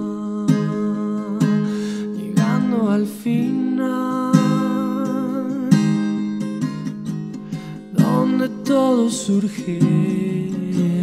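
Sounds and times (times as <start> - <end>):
man singing: 0.0 - 6.1, 7.9 - 11.0
strummed acoustic guitar: 0.0 - 11.0.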